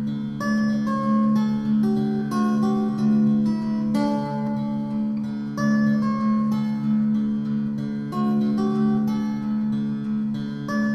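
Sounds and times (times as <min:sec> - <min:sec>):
plucked string instrument: 0:00.0 - 0:10.9.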